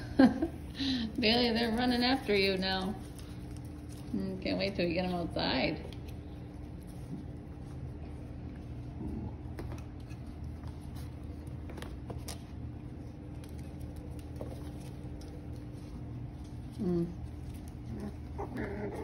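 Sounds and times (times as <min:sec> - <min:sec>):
steady low hum: 0:00.0 - 0:19.0
puppy paws pattering: 0:00.1 - 0:19.0.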